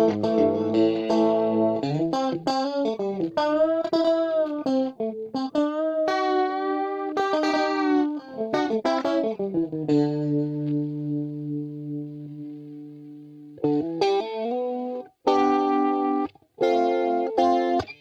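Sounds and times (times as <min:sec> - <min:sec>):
electric guitar lead line: 0:00.0 - 0:18.0.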